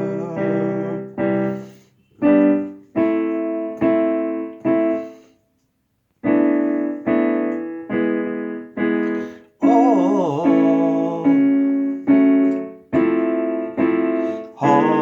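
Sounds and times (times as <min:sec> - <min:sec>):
keyboard playing slow piano chords: 0:00.0 - 0:05.4, 0:06.2 - 0:15.0.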